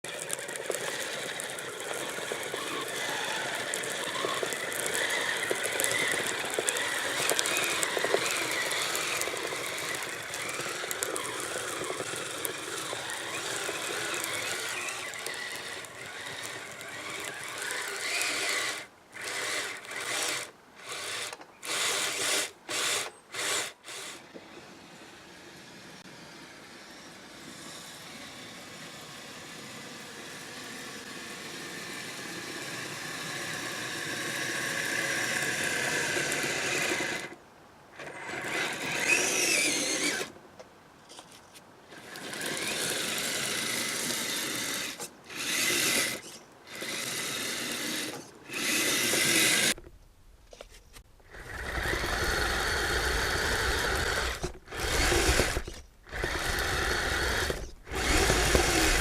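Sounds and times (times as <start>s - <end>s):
electric motor and tracks whirring: 0.0s - 40.4s, 41.1s - 59.0s.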